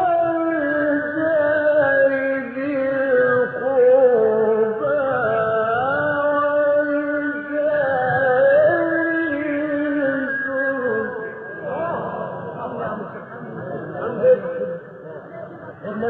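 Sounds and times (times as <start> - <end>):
man chanting melismatic recitation: 0.0 - 16.0.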